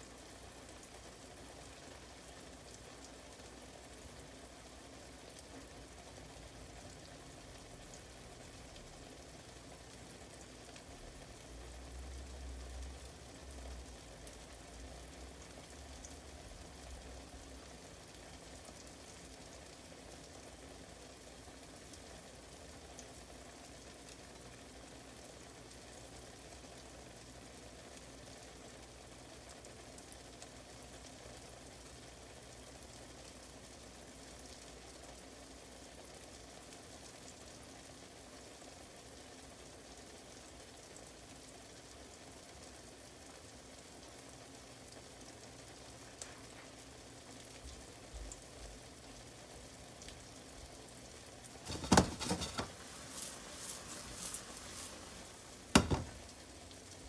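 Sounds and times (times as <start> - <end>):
pancake sizzling in a pan: 0.0 - 57.0.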